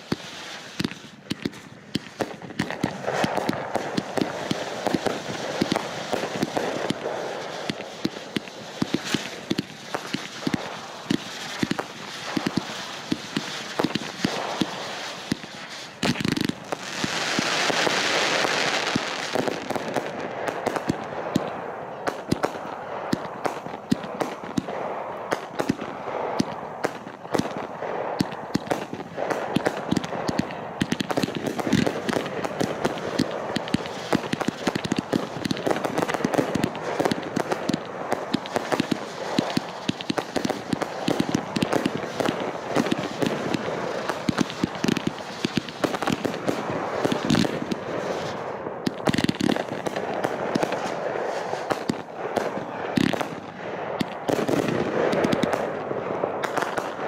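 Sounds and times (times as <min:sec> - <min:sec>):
firework hiss: 0:00.0 - 0:21.1, 0:28.2 - 0:53.5
fireworks crackling pops: 0:00.0 - 0:57.0.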